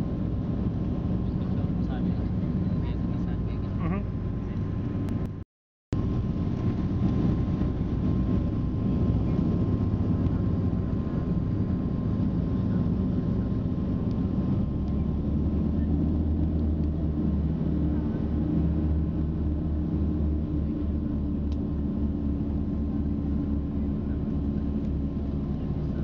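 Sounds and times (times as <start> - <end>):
propeller engines droning: 0.0 - 5.4, 6.0 - 26.0.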